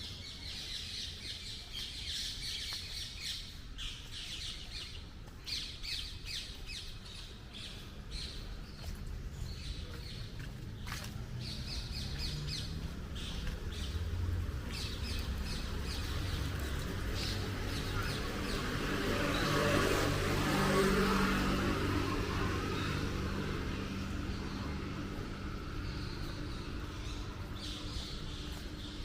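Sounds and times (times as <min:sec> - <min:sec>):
small birds chirping: 0:00.0 - 0:29.0
motor vehicle passing: 0:05.5 - 0:29.0.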